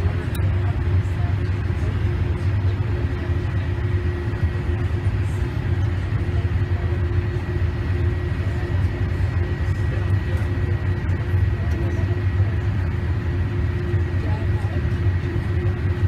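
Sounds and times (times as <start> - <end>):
jet engines rumbling in cabin: 0.0 - 16.0.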